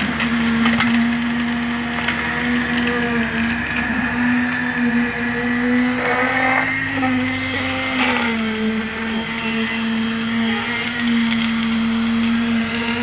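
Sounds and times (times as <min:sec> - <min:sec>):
concrete vibrator humming: 0:00.0 - 0:13.0.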